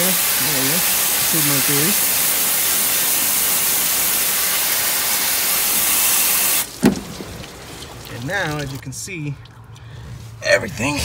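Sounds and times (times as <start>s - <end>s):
water spraying on sheet metal: 0.0s - 9.1s.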